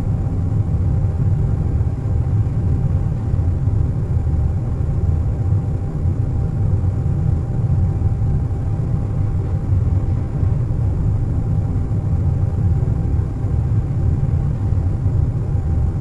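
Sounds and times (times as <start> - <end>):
faint constant tone: 0.0 - 16.0.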